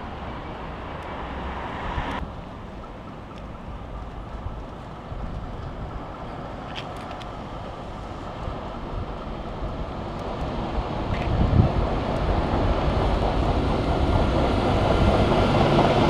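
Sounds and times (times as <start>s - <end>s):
wind buffeting microphone: 3.1s - 16.0s.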